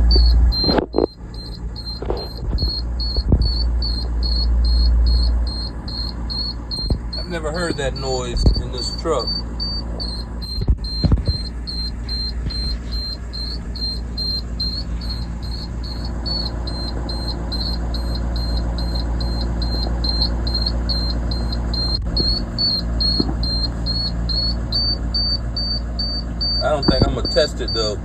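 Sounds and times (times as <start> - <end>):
rapid high-pitched chirp: 0.0 - 28.0
truck engine idling: 0.0 - 28.0.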